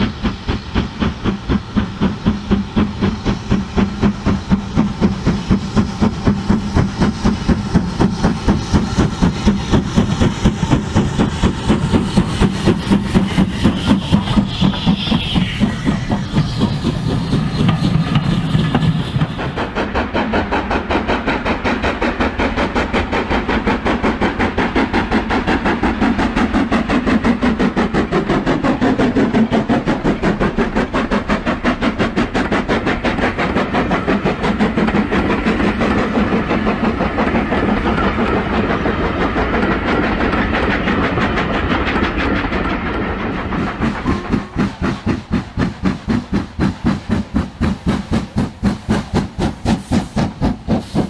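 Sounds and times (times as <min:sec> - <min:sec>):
model steam locomotive chuffing: 0:00.0 - 0:51.0
steam hissing: 0:00.0 - 0:51.0.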